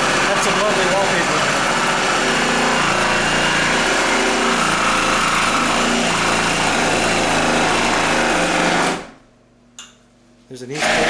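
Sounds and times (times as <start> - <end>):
reciprocating saw cutting: 0.0 - 9.1, 10.8 - 11.0.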